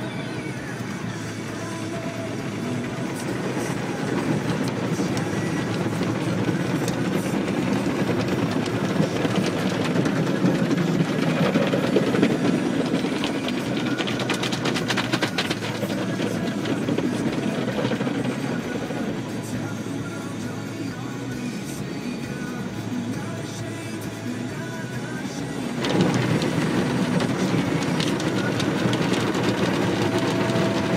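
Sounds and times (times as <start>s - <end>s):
car wash water spray and brushes: 0.0s - 30.9s
rapid crackling ticks: 1.5s - 20.8s, 22.5s - 30.9s.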